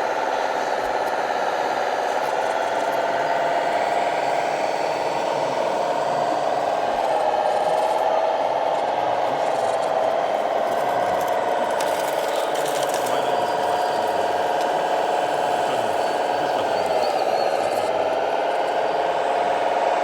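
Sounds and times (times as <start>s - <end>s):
model truck electric motor whine: 0.0s - 20.0s.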